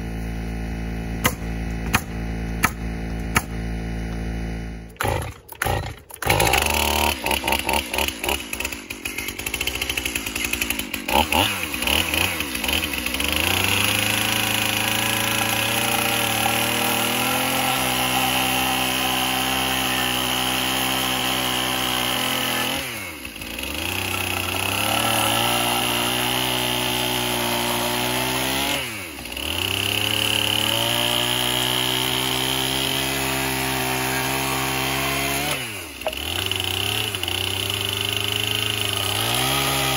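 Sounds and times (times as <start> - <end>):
electric chainsaw motor whine: 0.0 - 39.9.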